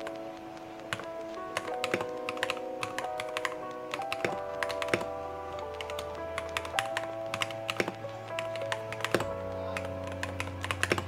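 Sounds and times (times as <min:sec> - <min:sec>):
soft background music: 0:00.0 - 0:11.0
mechanical keyboard typing: 0:00.9 - 0:11.0.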